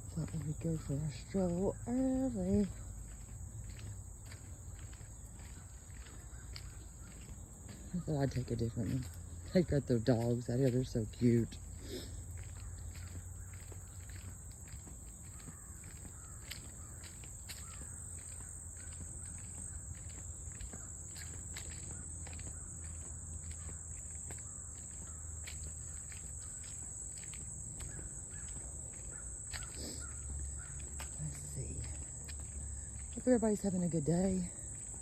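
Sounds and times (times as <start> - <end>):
footsteps on a path: 0.0 - 35.0
high-pitched drone of insects: 0.0 - 35.0.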